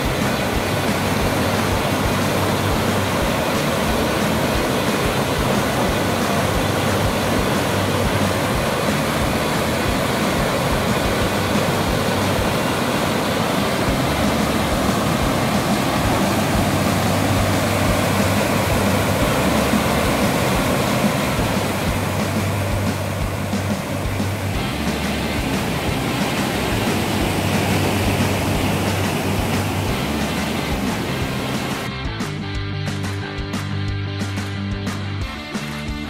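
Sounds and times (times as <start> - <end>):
waterfall rushing over rocks: 0.0 - 31.9.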